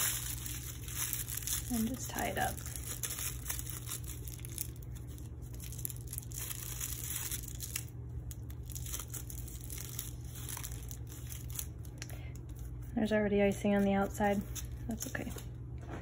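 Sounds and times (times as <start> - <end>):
plastic bag crinkling: 0.0 - 12.9
steady low hum: 0.0 - 16.0.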